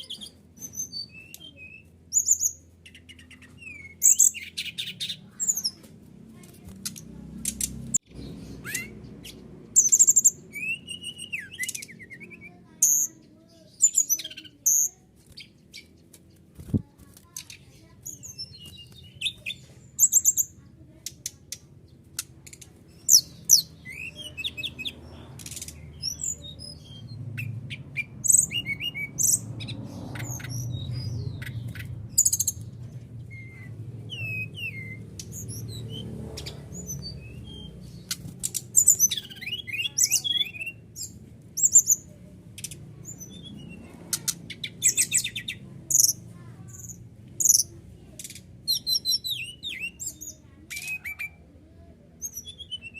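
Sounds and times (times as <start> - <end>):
bird chirps and trills: 0.0 - 52.9.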